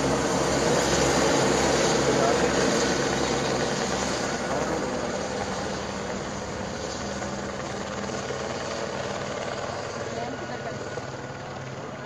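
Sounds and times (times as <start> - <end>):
distant helicopter flying: 0.0 - 12.0.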